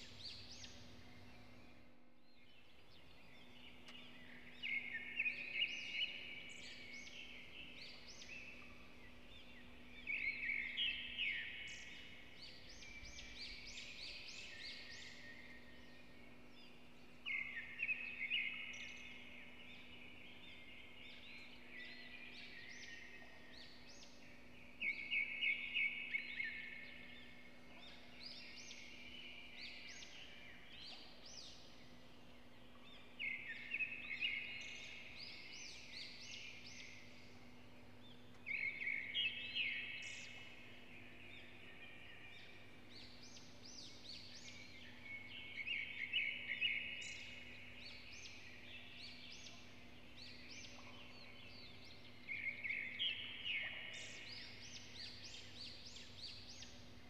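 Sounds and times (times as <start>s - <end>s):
songbird chirping: 0.0s - 57.0s
steady low hum: 0.0s - 57.0s.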